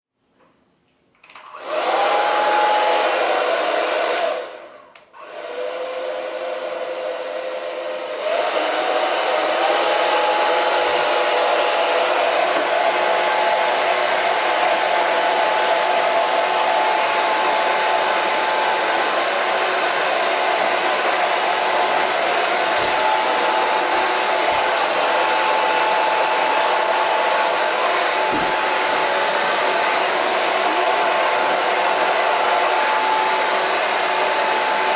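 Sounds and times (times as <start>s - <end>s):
hair dryer blowing with a whine: 1.3s - 34.9s.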